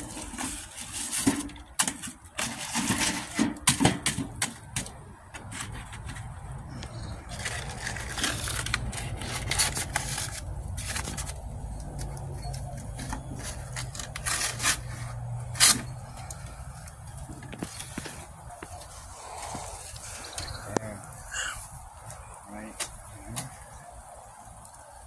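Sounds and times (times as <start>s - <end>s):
cardboard and charcoal rustling: 0.0s - 25.0s.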